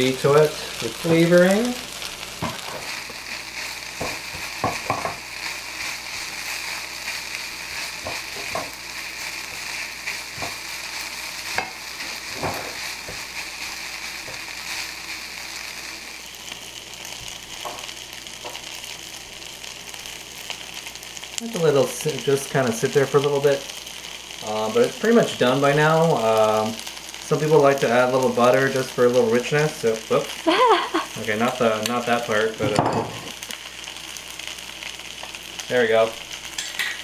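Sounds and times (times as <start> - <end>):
rice sizzling in a hot pan: 0.0 - 37.0.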